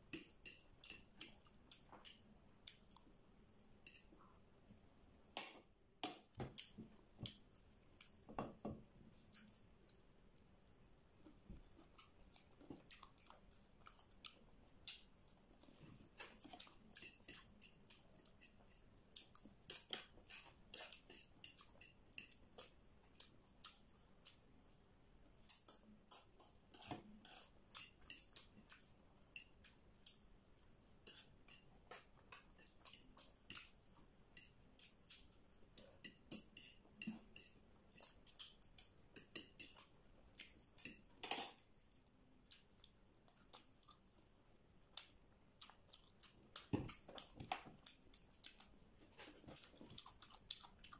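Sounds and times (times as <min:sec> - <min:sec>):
chewing and mouth sounds: 0:00.1 - 0:03.2, 0:11.2 - 0:50.9.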